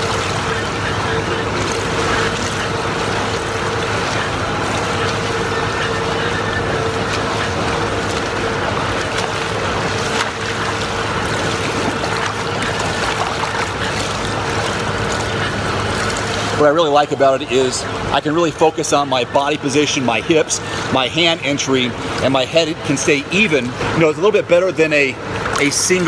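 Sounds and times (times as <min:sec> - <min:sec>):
steady hum and hiss: 0:00.0 - 0:26.0
swimmer splashing: 0:00.0 - 0:26.0.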